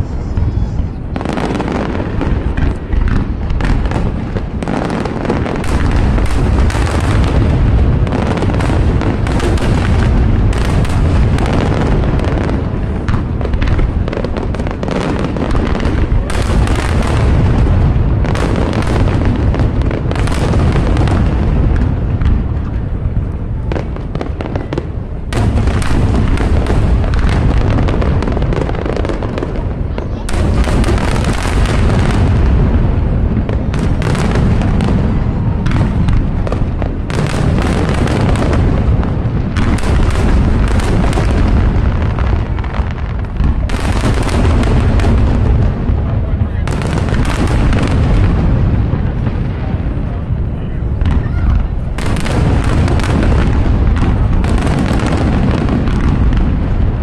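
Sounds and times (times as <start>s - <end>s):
firework booms: 0.0s - 57.0s
firework crackling bursts: 0.0s - 57.0s.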